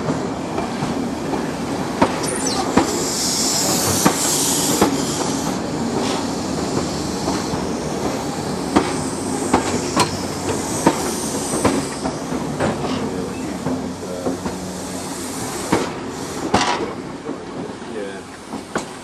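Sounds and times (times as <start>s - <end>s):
train hiss and rumble: 0.0s - 19.0s
train wheels knocking on rail joints: 0.0s - 19.0s.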